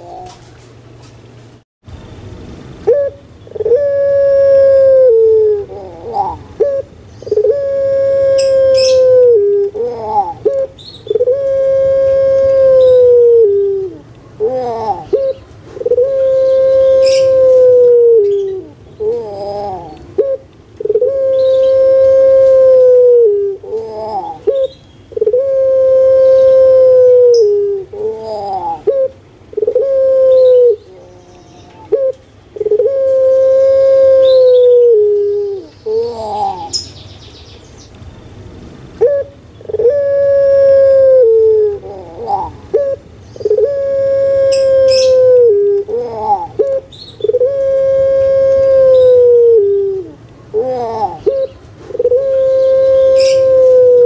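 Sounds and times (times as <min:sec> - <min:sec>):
dove cooing: 0:00.0 - 0:00.5, 0:02.8 - 0:36.8, 0:39.0 - 0:54.0.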